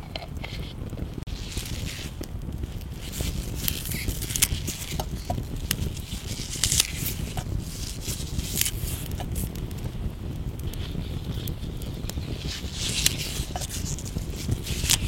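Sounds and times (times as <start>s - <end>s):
campfire crackling: 0.0s - 15.0s
fire pops and snaps: 0.0s - 15.0s.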